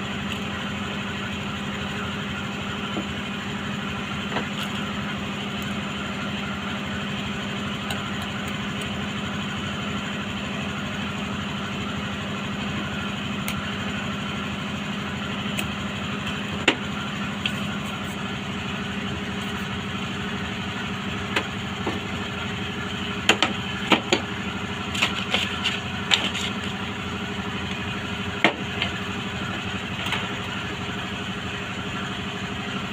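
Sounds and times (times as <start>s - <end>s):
mechanical hum: 0.0s - 32.9s.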